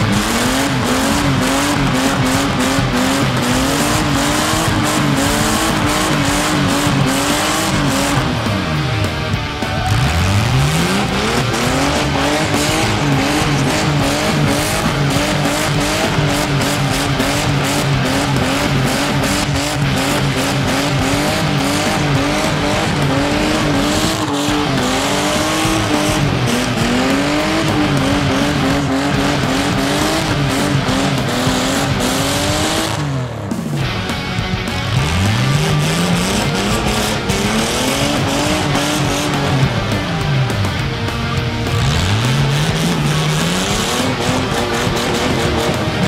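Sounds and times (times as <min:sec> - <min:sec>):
car engine revving high: 0:00.0 - 0:46.0.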